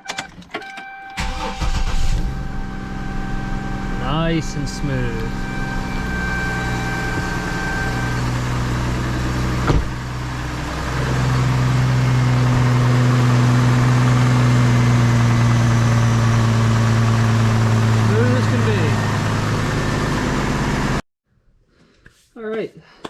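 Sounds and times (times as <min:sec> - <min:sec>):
car engine idling: 0:01.2 - 0:21.0.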